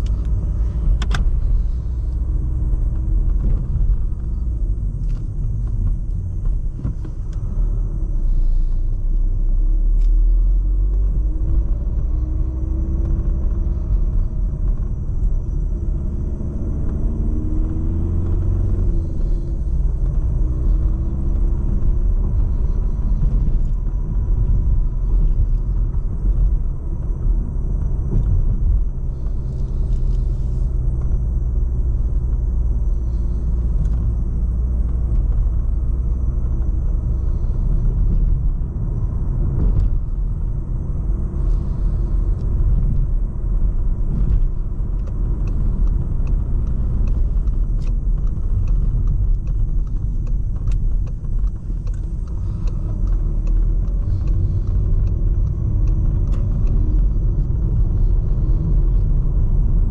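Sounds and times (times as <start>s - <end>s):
diesel engine rumble: 0.0s - 59.9s
tyres on road: 0.0s - 59.9s.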